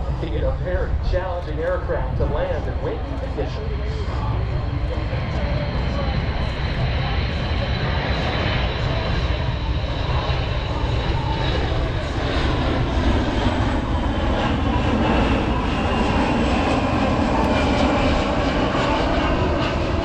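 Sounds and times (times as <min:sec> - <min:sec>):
jet engines passing low: 0:00.0 - 0:20.0.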